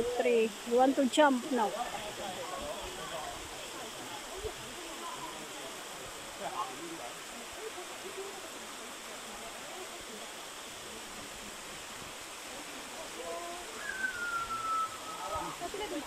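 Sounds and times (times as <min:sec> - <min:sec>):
faint voices: 0:00.0 - 0:16.0
small waterfalls into pool: 0:00.0 - 0:16.0
stream water rushing: 0:00.0 - 0:16.0.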